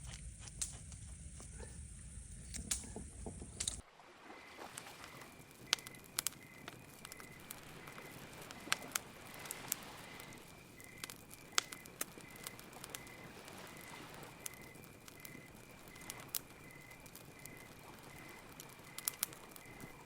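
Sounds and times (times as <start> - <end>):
campfire crackling and popping: 0.0 - 3.8, 4.4 - 20.0.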